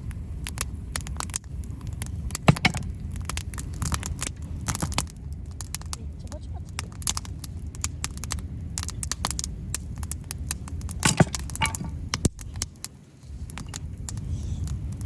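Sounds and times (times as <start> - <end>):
low rumble: 0.0 - 15.0
wood fire crackling and popping: 0.0 - 15.0.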